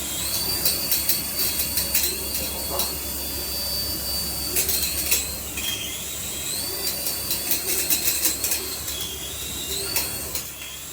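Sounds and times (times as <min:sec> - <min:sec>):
small motor whining: 0:00.0 - 0:10.9.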